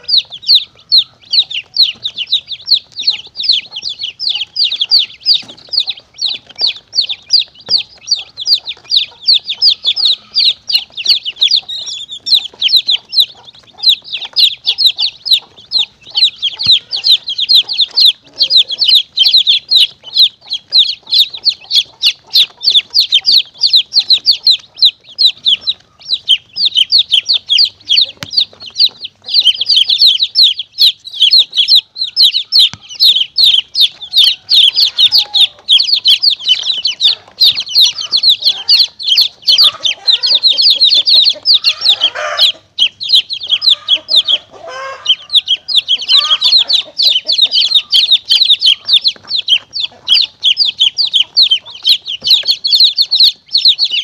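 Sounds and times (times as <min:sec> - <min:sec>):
baby chicks peeping: 0:00.0 - 0:54.0
lower clucking calls: 0:00.0 - 0:54.0.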